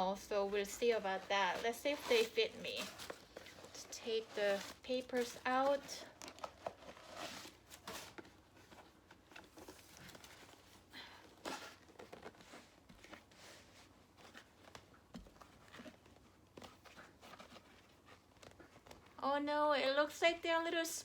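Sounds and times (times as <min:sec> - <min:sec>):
packing paper rustling: 0:00.0 - 0:19.2.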